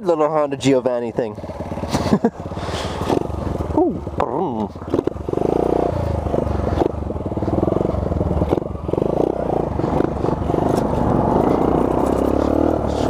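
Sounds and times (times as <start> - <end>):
minibike engine running: 0.5 - 13.0.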